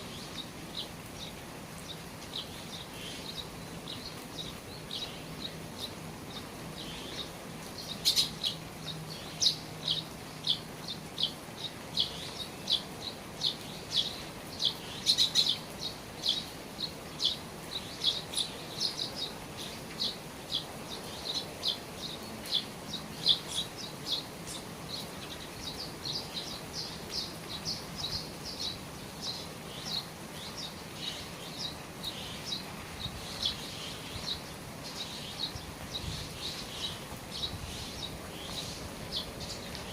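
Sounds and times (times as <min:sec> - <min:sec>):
birds chirping: 0:00.0 - 0:39.9
steady rain hiss: 0:00.0 - 0:39.9.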